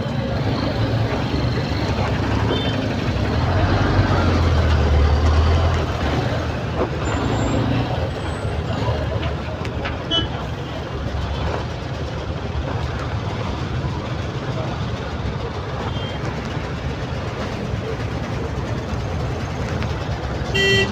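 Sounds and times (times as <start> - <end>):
highway traffic noise: 0.0 - 20.9
truck engine rumble: 0.0 - 20.9.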